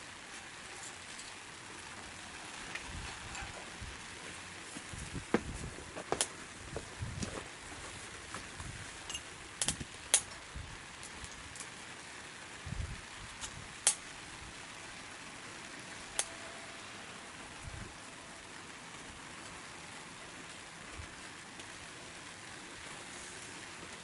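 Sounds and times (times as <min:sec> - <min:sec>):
wood fire hissing and crackling: 0:00.0 - 0:24.0.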